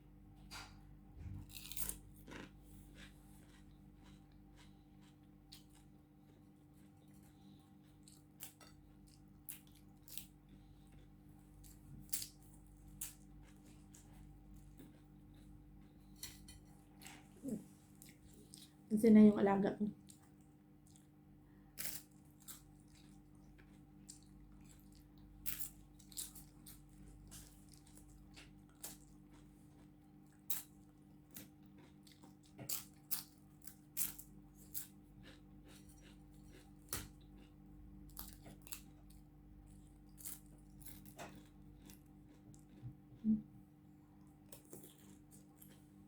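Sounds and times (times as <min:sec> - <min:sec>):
faint steady hum: 0:00.0 - 0:46.0
person chewing crisp food: 0:01.2 - 0:18.9, 0:20.0 - 0:43.4, 0:44.2 - 0:46.0.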